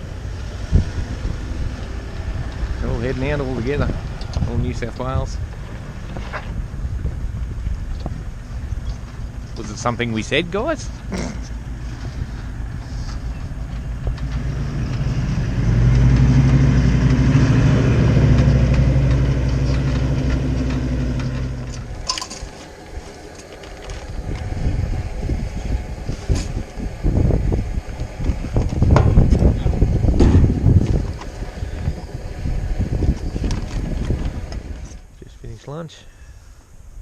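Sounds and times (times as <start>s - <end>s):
vehicle engine running: 0.0s - 35.2s
wind noise: 0.0s - 35.5s.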